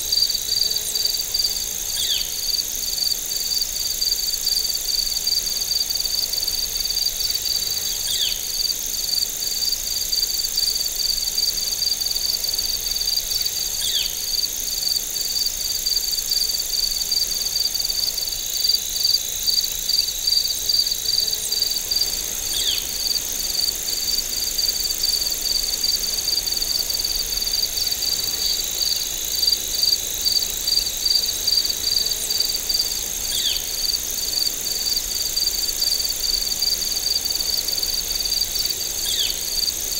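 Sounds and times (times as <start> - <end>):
crickets trilling: 0.0 - 39.9
insect pulsing rhythmically: 0.0 - 39.9.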